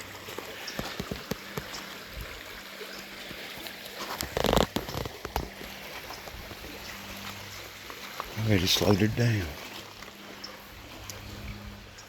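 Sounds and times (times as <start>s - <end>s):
creek water over rocks: 0.0s - 12.0s.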